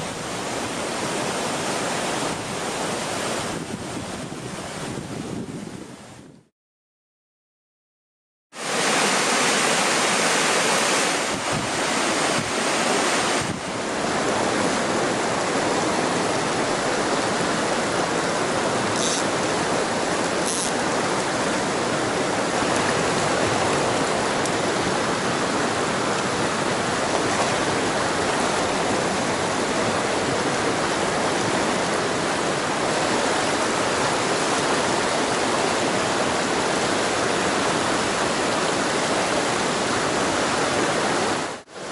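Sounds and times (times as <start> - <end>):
stream rushing over rocks: 0.0 - 5.1, 8.6 - 41.9.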